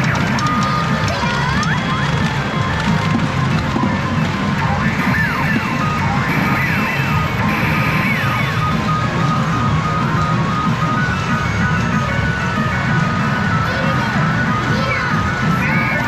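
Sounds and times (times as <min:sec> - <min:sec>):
electronic game music: 0:00.0 - 0:16.0.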